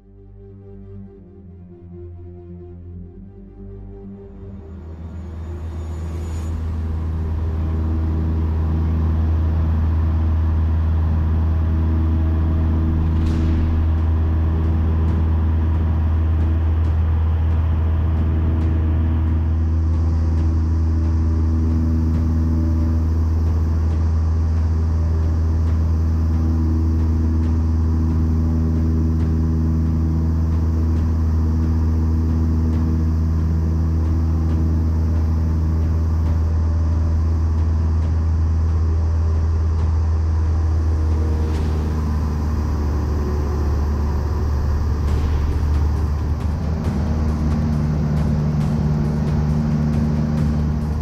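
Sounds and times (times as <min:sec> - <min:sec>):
airplane engine and propeller droning: 0:00.0 - 0:51.0.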